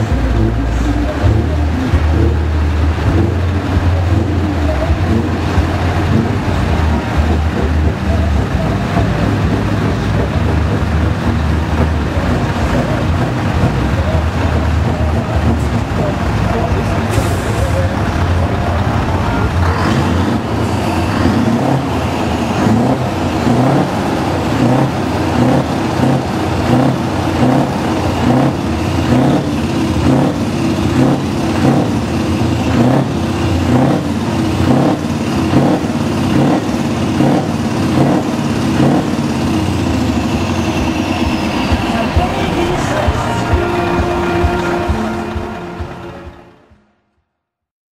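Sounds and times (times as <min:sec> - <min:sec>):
truck engines rumbling: 0:00.0 - 0:47.0.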